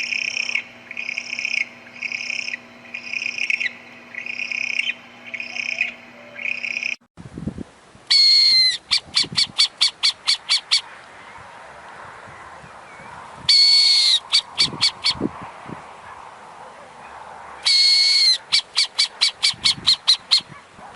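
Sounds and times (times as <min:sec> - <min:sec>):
owl calling: 0:00.0 - 0:07.0, 0:08.1 - 0:11.6, 0:12.3 - 0:15.3, 0:17.0 - 0:20.6.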